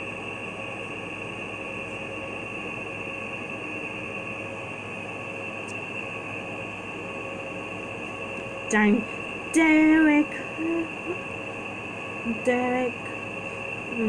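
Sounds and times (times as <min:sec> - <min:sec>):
high-pitched whine: 0:00.0 - 0:14.0
steady hiss and hum: 0:00.0 - 0:14.0.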